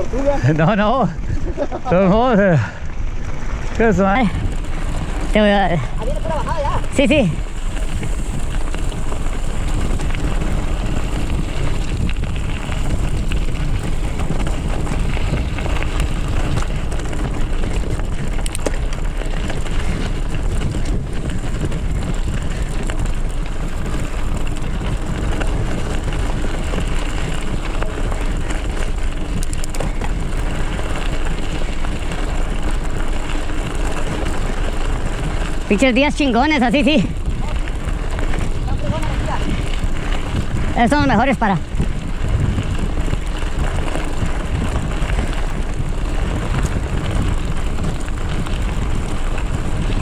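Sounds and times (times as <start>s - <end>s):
bike tyres rumbling on dirt: 0.0s - 50.0s
wind rushing on microphone: 0.0s - 50.0s.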